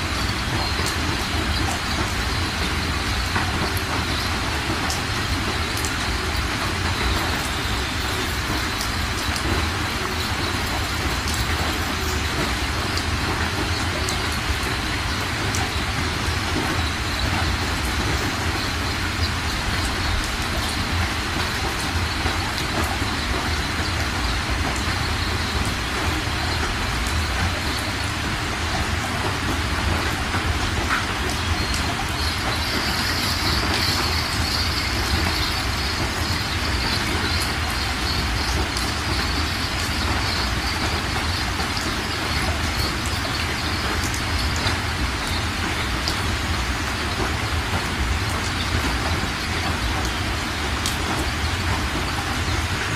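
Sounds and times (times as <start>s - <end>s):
water rushing over rocks: 0.0s - 52.9s.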